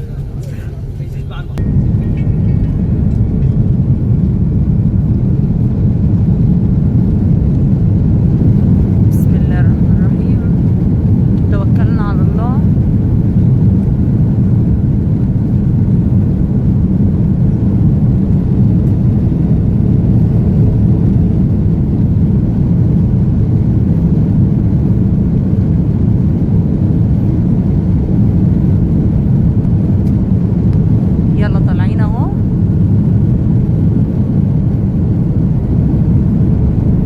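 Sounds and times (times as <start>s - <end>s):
jet engines low rumble in cabin: 0.0s - 37.0s.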